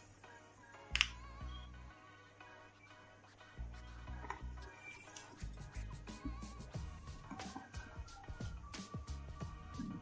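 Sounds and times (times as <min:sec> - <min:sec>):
music through a speaker: 0:00.0 - 0:10.0.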